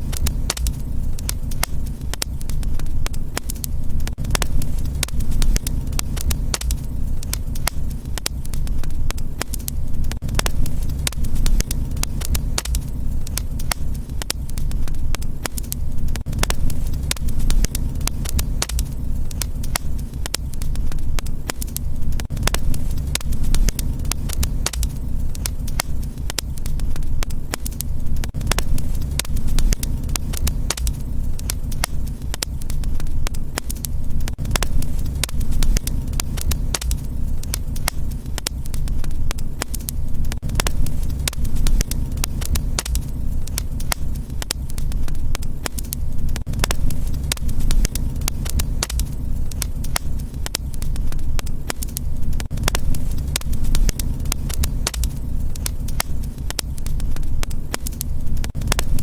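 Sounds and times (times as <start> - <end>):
fireplace fire crackling: 0.0 - 59.0
low rumble of flames: 0.0 - 59.0.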